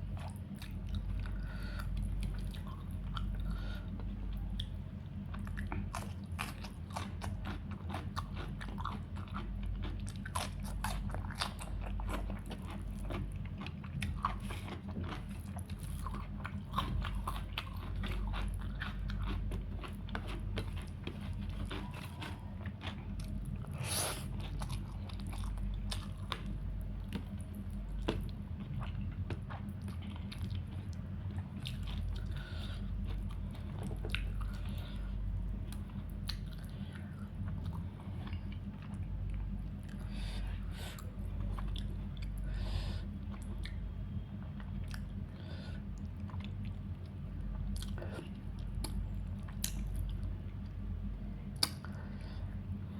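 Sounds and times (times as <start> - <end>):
low hum: 0.0 - 52.9
person chewing food: 0.0 - 52.9
food crunching: 0.1 - 42.5.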